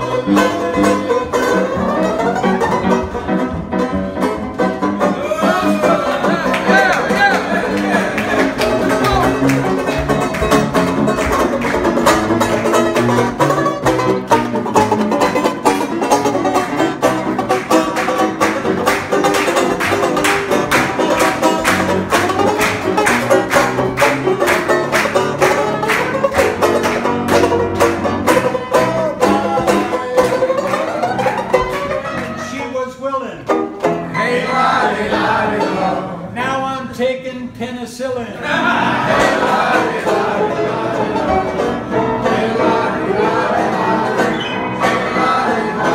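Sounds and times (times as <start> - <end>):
banjo strumming fast: 0.0 - 36.1, 38.4 - 45.9
upright piano playing: 0.0 - 37.0, 38.5 - 45.9.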